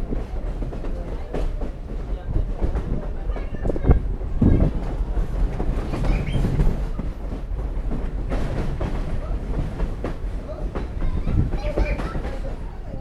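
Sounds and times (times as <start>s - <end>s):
train rumbling on track: 0.0s - 13.0s
wheels clacking over rails: 0.0s - 13.0s.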